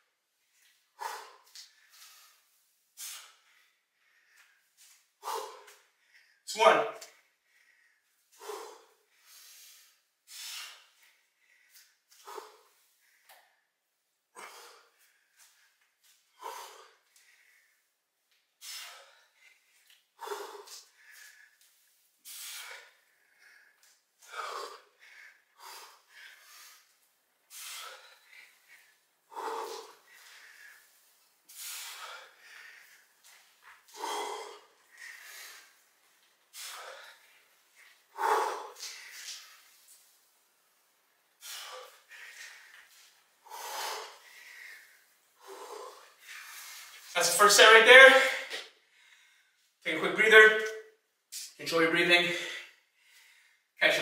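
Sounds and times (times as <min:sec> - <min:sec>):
man breathing hard: 0:00.5 - 0:47.2, 0:47.9 - 0:49.8, 0:52.3 - 0:53.8.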